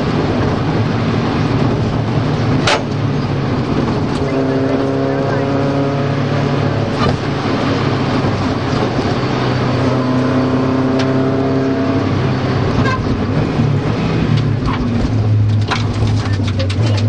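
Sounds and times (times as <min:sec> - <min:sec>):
car engine running: 0:00.0 - 0:17.0
road and tyre noise: 0:00.0 - 0:17.0.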